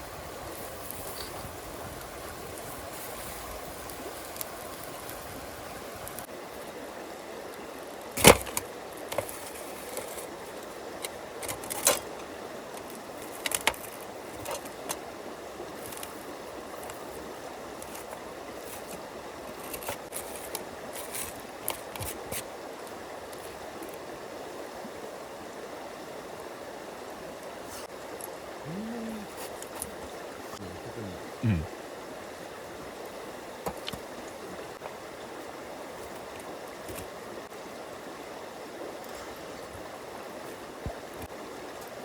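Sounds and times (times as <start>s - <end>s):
stream rushing: 0.0s - 42.0s.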